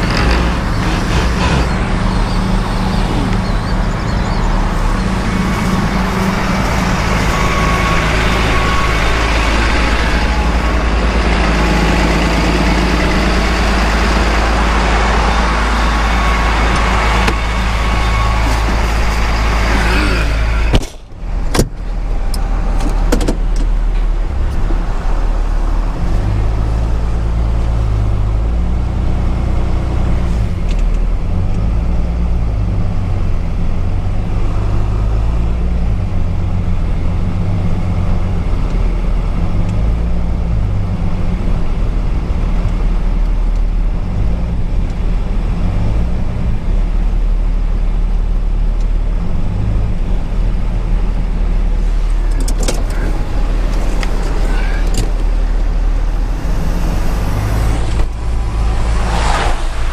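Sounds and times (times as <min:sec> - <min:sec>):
engine and road noise drone: 0:00.0 - 0:59.9.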